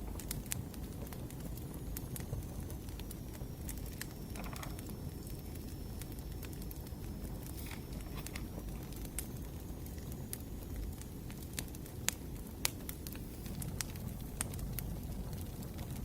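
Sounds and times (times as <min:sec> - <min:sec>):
firewood crackling and popping: 0:00.0 - 0:16.0
low rumble of fire: 0:00.0 - 0:16.0.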